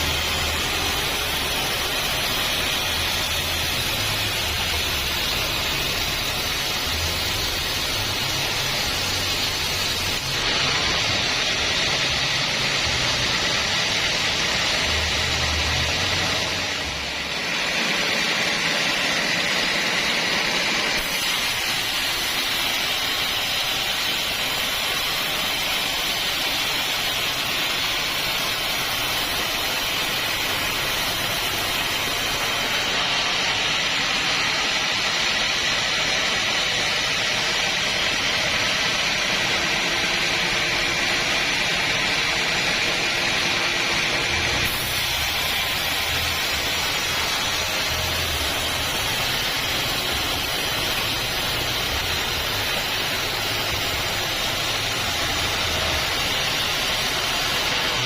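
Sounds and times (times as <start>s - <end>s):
bandsaw cutting log: 0.0s - 58.0s.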